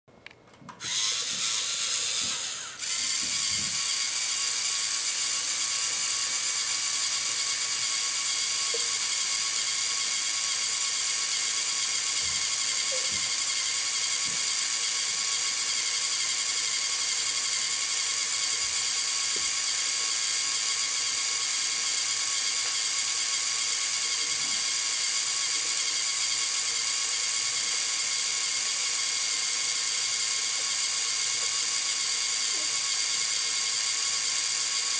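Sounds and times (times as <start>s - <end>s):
servo motors whining: 0.8s - 34.9s.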